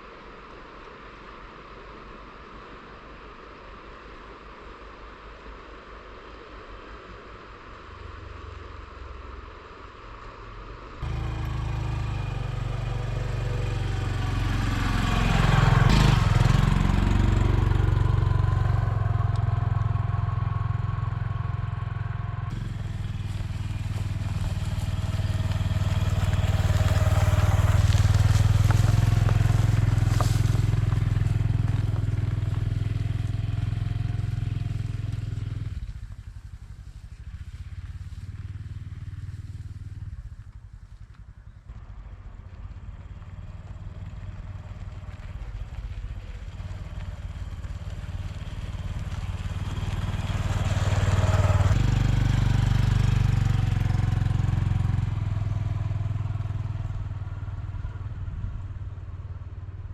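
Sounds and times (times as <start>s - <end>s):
small motorcycle engine running: 11.0s - 59.9s.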